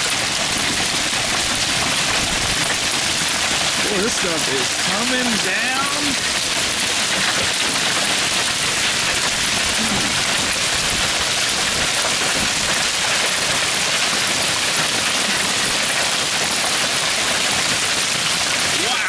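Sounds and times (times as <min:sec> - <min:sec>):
heavy hail striking surfaces: 0:00.0 - 0:19.0.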